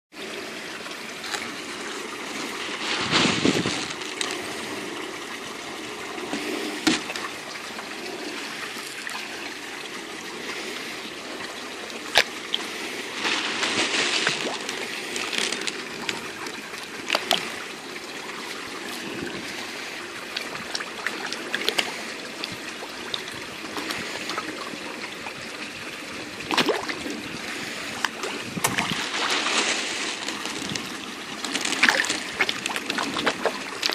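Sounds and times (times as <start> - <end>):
water trickling into a pond: 0.1 - 33.9
fish splashing: 0.9 - 33.9.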